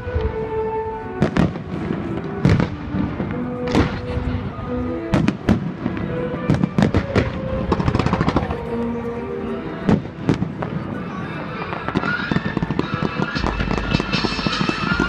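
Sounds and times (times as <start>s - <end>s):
fireworks bangs and crackles: 0.0s - 8.9s, 9.8s - 15.0s
music playing: 0.0s - 15.0s.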